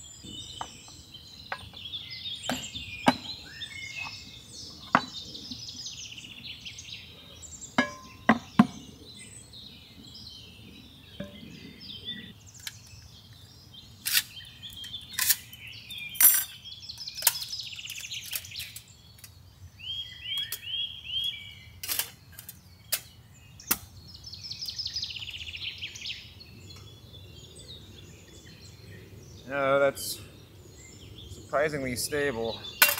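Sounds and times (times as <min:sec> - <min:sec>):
songbirds singing: 0:00.0 - 0:32.9.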